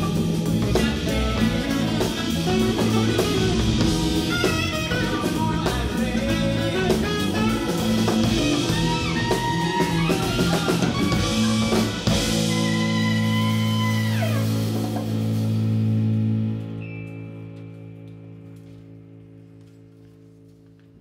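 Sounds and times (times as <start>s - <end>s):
saxophone: 0.0s - 17.3s
jazz-rock band playing: 0.0s - 19.8s.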